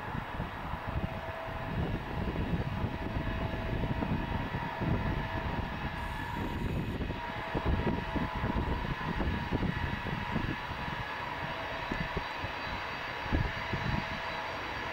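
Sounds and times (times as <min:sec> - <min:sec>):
jet engines rumbling and whining: 0:00.0 - 0:14.9.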